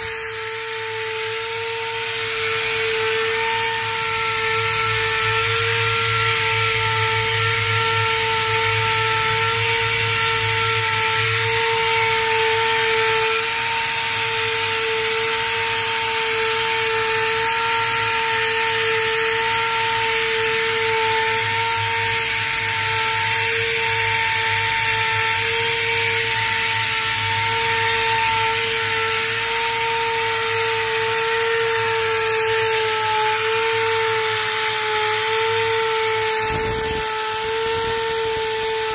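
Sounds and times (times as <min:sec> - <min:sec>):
grinding machine motor whine: 0:00.0 - 0:38.9.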